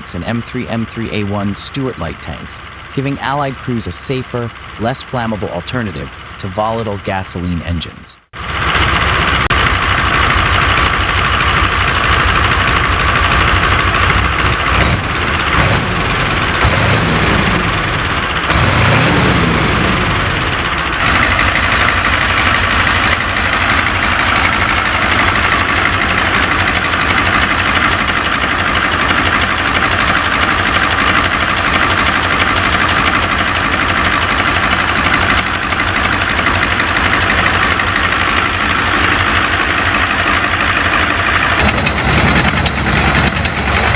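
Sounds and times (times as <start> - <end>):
radial diesel engine running: 0.0 - 43.9.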